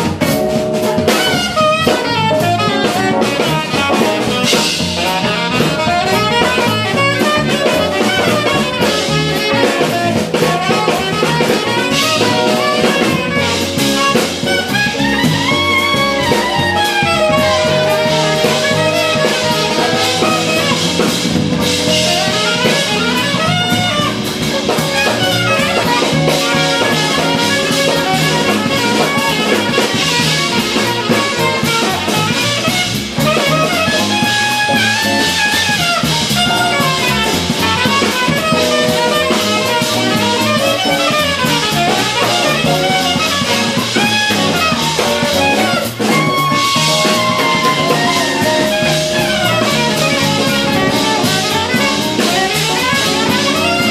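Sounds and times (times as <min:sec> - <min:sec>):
drum kit: 0:00.0 - 0:53.9
electric bass: 0:00.0 - 0:53.9
electric guitar: 0:00.0 - 0:53.9
keyboard: 0:00.0 - 0:53.9
saxophone lead line: 0:00.0 - 0:53.9.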